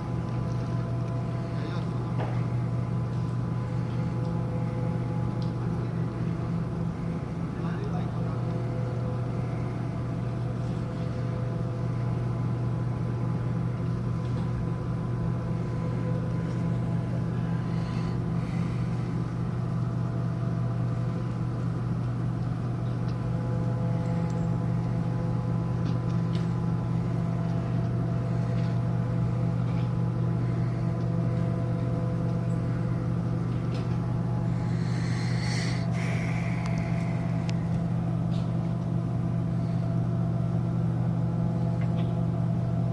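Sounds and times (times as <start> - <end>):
ship machinery droning: 0.0 - 41.7.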